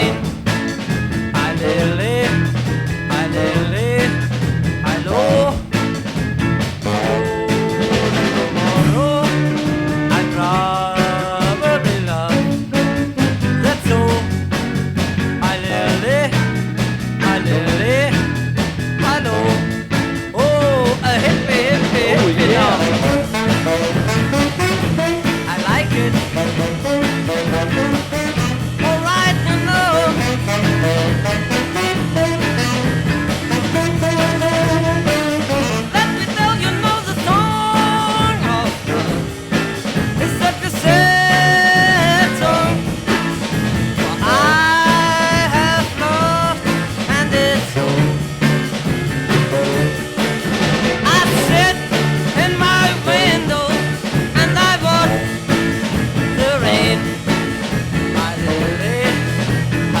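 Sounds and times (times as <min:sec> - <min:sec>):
band playing instrumental: 0:00.0 - 1:00.0.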